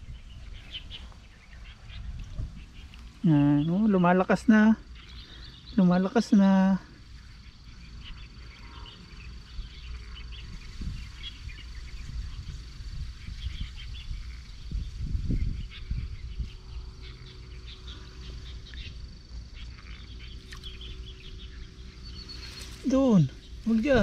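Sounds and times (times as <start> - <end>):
insects chirping: 0.0 - 24.0
low rumble: 0.0 - 24.0.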